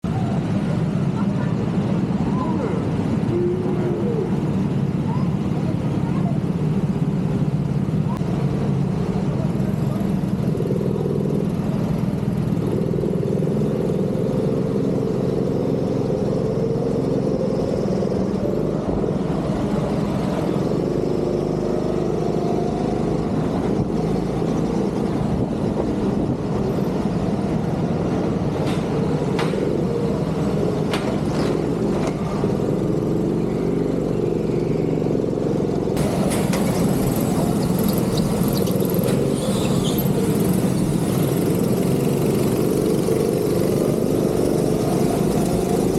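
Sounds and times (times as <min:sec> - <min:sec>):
go-kart engine revving: 0:08.5 - 0:45.9.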